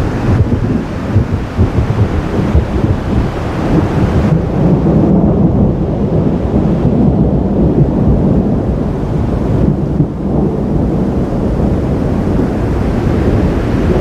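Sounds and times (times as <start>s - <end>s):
thunder rumbling: 0.0s - 14.0s
wind noise on microphone: 0.0s - 14.0s.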